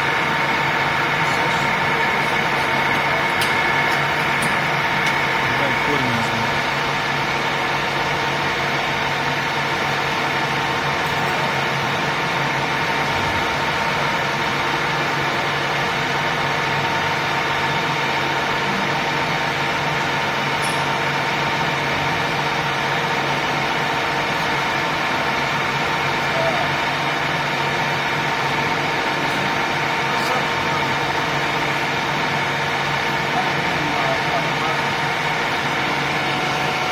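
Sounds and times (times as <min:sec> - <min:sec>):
lathe humming and whining: 0:00.0 - 0:36.9.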